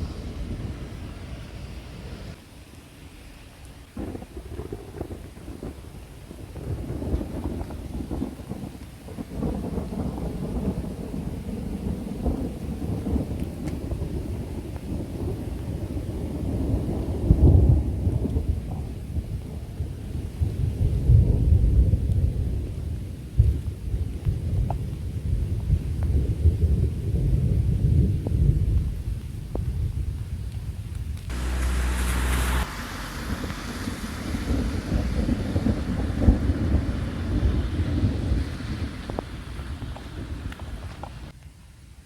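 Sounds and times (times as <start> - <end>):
rolling thunder rumble: 0.0 - 2.4, 3.8 - 41.4
wind buffeting microphone: 0.0 - 2.4, 3.8 - 41.4.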